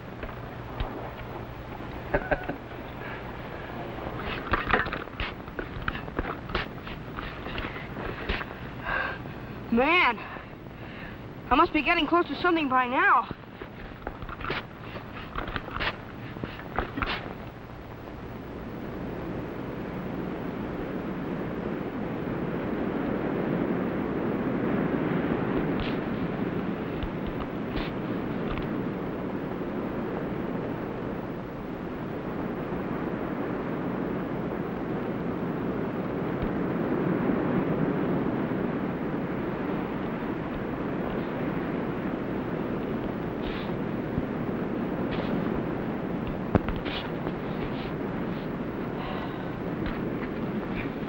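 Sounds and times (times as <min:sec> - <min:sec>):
wind: 0:00.0 - 0:51.0.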